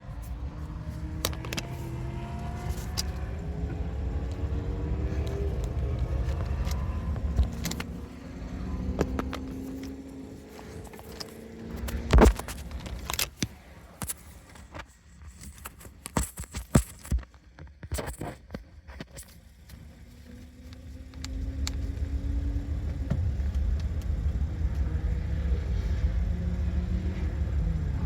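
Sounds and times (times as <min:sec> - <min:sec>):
car engine running: 0:00.0 - 0:17.1, 0:19.2 - 0:28.0.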